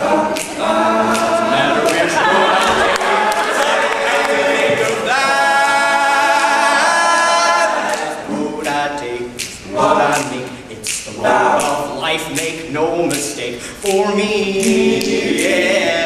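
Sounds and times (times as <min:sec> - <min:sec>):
male group singing a cappella: 0:00.0 - 0:16.0.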